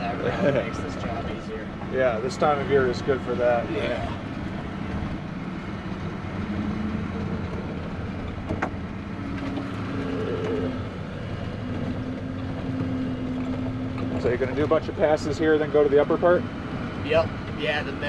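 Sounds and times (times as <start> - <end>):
snowcat engine under load: 0.0 - 18.0.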